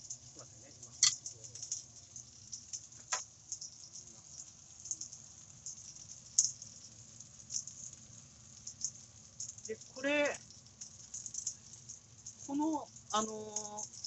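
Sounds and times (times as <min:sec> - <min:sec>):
fat crackling in frying pan: 0:00.0 - 0:14.0.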